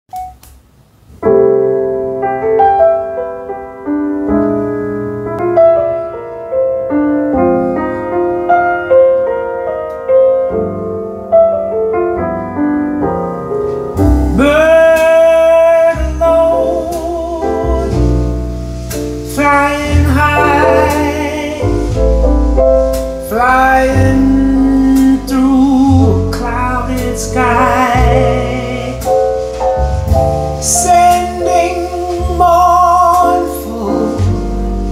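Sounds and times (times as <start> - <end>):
bass: 0.0 - 34.9
solo piano: 0.1 - 34.9
lead melody with wide vibrato: 1.5 - 34.9.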